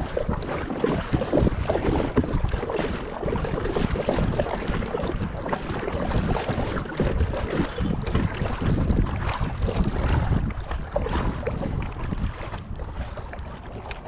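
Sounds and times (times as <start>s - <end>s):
water splashing against kayak: 0.0s - 14.0s
wind buffeting microphone: 0.0s - 14.0s.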